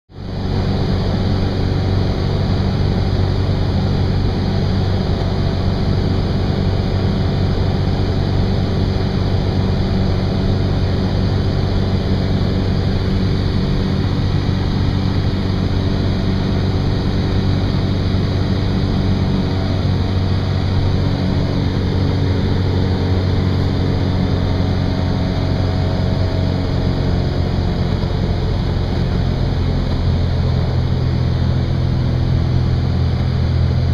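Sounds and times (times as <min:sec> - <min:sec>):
aircraft engine and propeller droning: 0:00.1 - 0:33.9
air rushing past cabin: 0:00.2 - 0:33.9.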